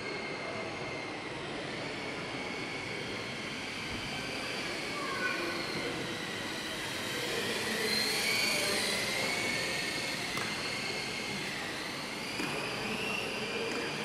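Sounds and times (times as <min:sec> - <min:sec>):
hall background noise: 0:00.0 - 0:14.0
model plane motors whining: 0:00.0 - 0:14.0.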